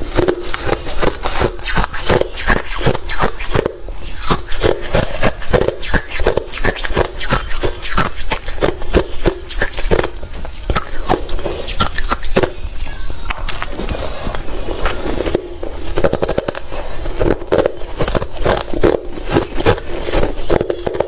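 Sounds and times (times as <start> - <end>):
chewing crunchy ice: 0.0 - 12.6, 13.5 - 21.0.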